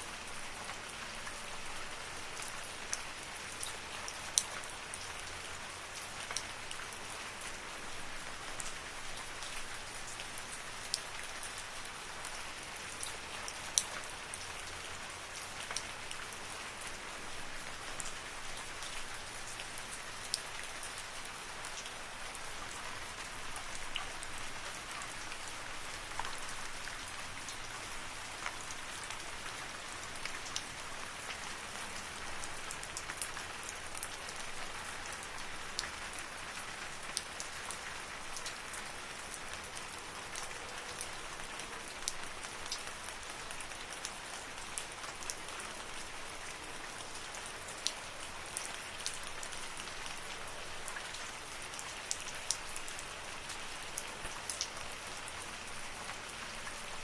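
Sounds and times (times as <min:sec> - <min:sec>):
rain hissing in forest: 0:00.0 - 0:57.0.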